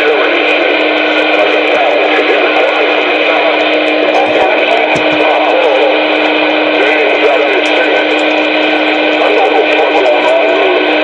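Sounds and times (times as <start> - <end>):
constant hum: 0.0 - 11.0
garbled warbling radio sound: 0.0 - 11.0
radio static: 0.0 - 11.0.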